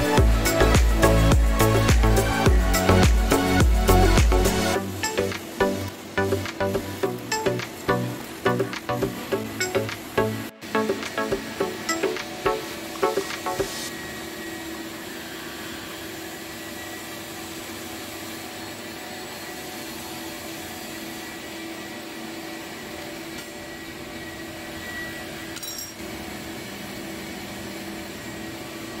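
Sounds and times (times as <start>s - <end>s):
machine hum and hiss: 0.0s - 29.0s.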